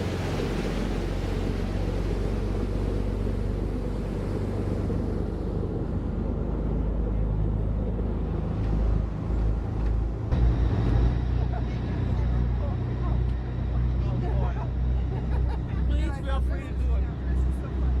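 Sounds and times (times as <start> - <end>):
boat engine running: 0.0 - 18.0
low wind buffeting: 0.0 - 18.0
wind and water rushing: 0.0 - 18.0.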